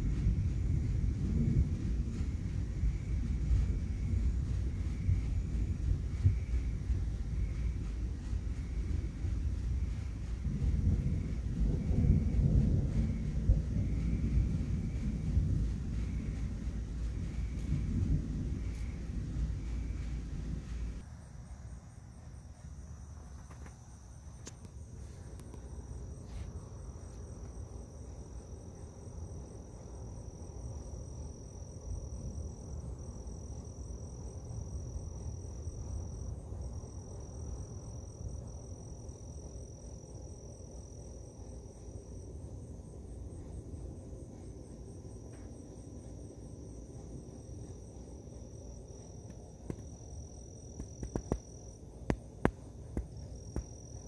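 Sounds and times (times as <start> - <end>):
low rumble: 0.0 - 51.0
night insects trilling: 0.0 - 54.0.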